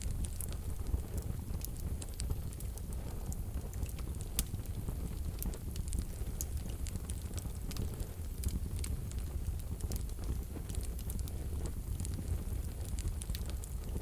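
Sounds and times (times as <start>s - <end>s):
fire rumbling: 0.0s - 14.0s
logs crackling and popping: 0.0s - 14.0s.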